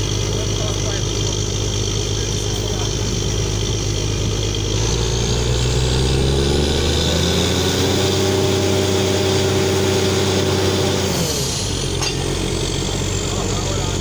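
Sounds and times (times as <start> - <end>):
drilling rig engine revving: 0.0 - 14.0.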